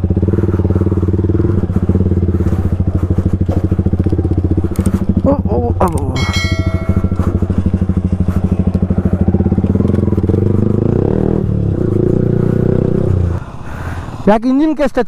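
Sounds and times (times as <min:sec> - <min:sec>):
single-cylinder motorcycle engine: 0:00.0 - 0:14.3.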